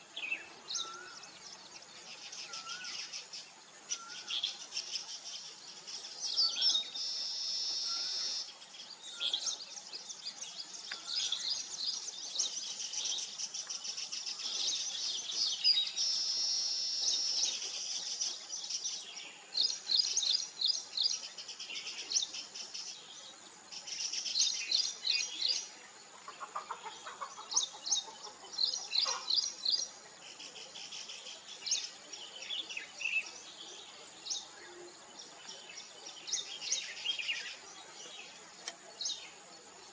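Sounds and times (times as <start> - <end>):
weaver birds chattering: 0.0 - 39.9.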